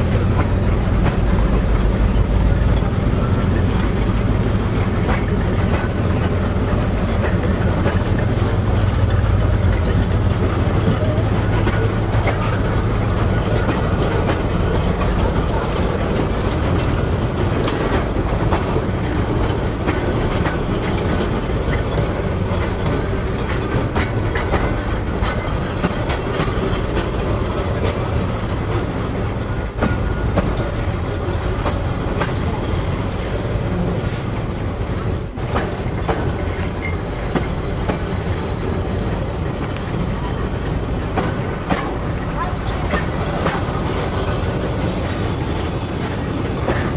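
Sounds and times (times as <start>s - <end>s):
train wheels clattering on rails: 0.0s - 46.9s.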